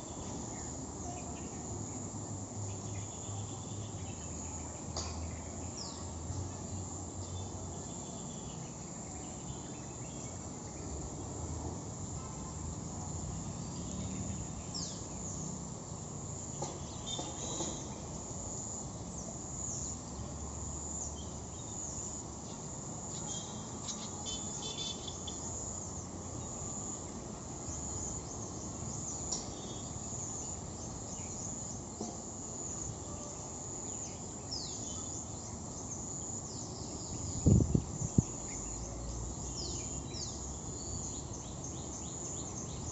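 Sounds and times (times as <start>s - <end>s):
insect chorus trilling: 0.0s - 42.9s.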